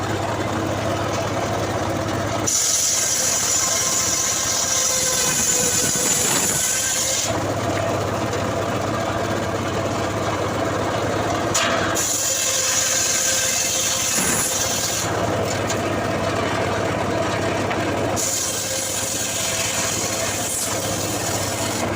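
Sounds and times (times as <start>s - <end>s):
saw engine running: 0.0s - 21.9s.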